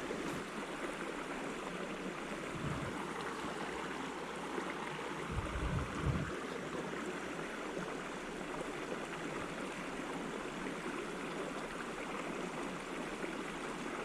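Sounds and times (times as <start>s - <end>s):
creek rushing over rocks: 0.0s - 12.5s.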